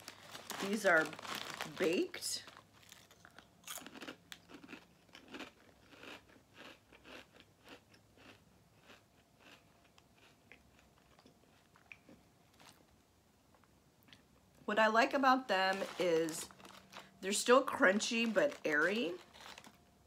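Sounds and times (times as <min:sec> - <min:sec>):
chewing crunchy chips: 0:00.0 - 0:12.9, 0:15.6 - 0:19.8.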